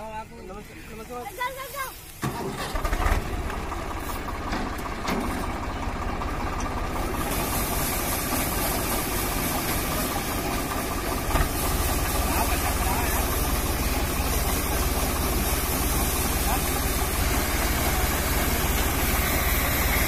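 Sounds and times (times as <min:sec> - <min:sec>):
tractor diesel engine running: 0:00.0 - 0:20.0
grain pouring hiss: 0:00.5 - 0:04.5, 0:06.8 - 0:20.0.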